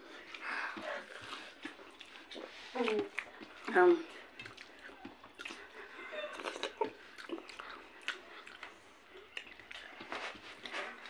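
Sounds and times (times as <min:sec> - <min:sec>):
chewing and mouth smacks: 0:00.1 - 0:11.0.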